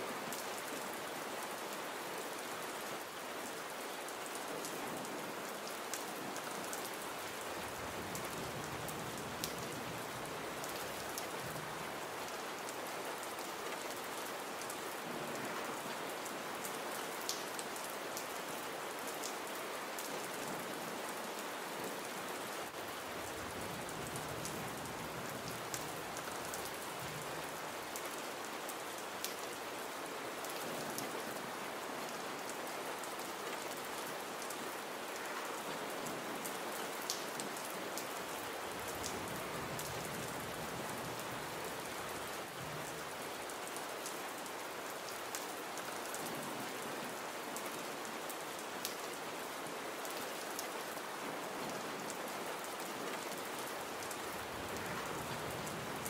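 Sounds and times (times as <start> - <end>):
gentle rain falling: 0.0 - 56.0.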